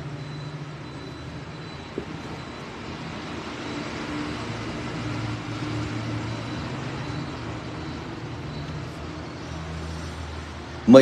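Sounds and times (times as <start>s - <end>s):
low engine hum: 0.0s - 10.9s
road traffic rushing: 0.0s - 11.0s.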